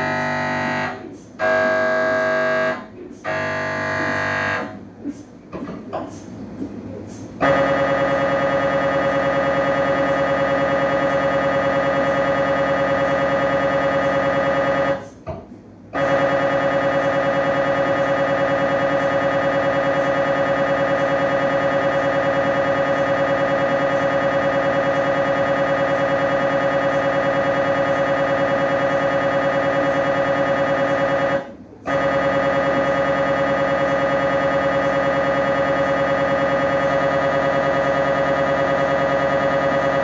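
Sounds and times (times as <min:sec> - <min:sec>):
mri scanner pulsing buzz: 0:00.0 - 0:05.8, 0:07.1 - 0:40.0.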